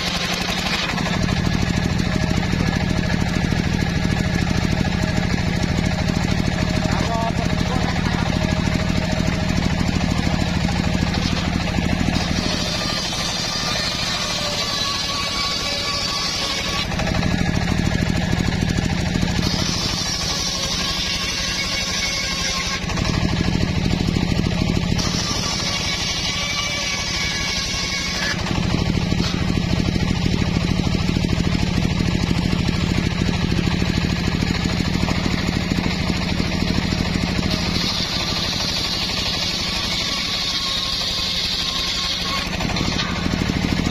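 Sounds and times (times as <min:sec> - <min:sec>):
circular saw blade cutting wood: 0:00.0 - 0:43.9
engine pulsing: 0:00.0 - 0:43.9.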